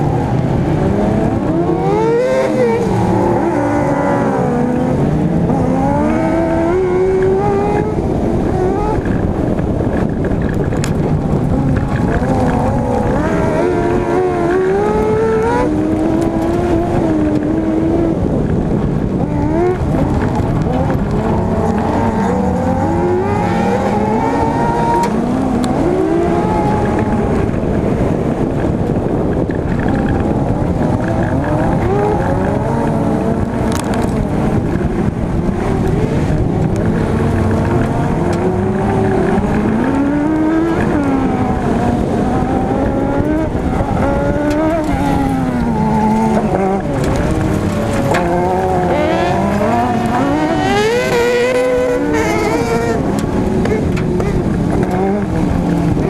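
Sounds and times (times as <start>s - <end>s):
car engine racing: 0.0s - 56.0s
road and gravel noise: 0.0s - 56.0s.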